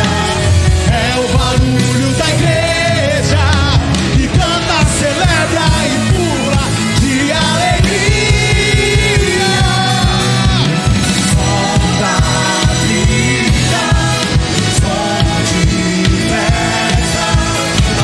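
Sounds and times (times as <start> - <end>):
drum kit playing: 0.0 - 18.0.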